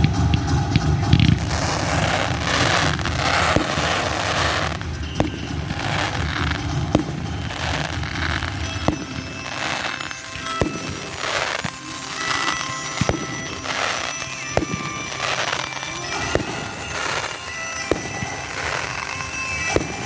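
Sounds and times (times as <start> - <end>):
firework bangs: 0.0 - 20.0
fireworks crackling and fizzing: 0.0 - 20.0.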